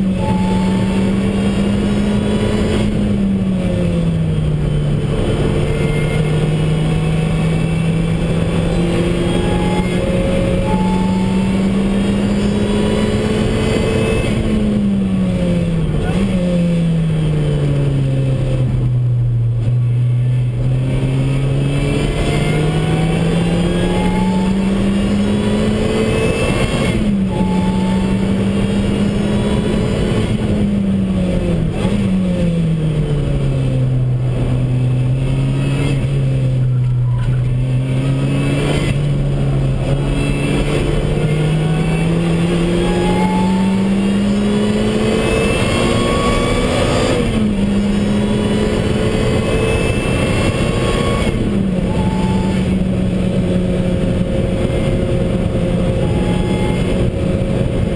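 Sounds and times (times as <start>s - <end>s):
car engine revving: 0.0s - 57.9s
road and wind noise: 0.0s - 57.9s.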